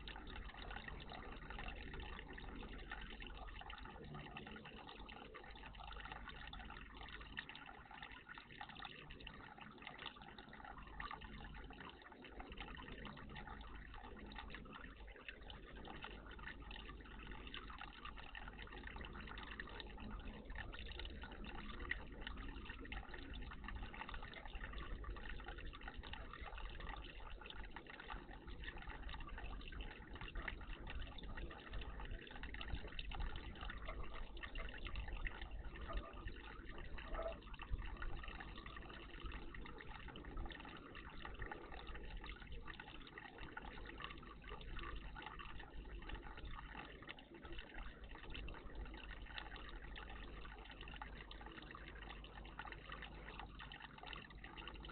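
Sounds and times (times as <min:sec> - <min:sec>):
water trickling: 0:00.0 - 0:54.9.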